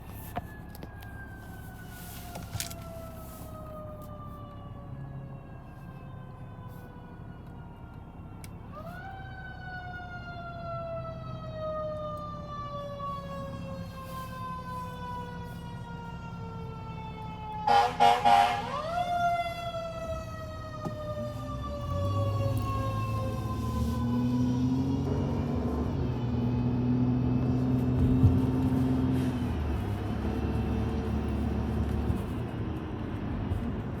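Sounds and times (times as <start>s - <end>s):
fire engine siren: 0.0s - 34.0s
truck engine rumble: 0.0s - 34.0s.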